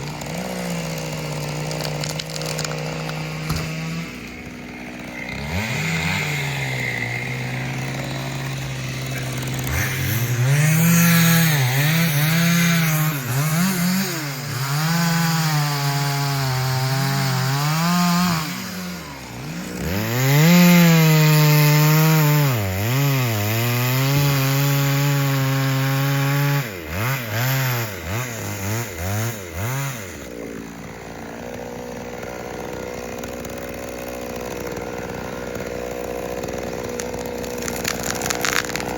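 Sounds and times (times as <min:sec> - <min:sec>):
chainsaw cutting into tree: 0:00.0 - 0:38.9
chainsaw throttle blips: 0:00.0 - 0:38.9.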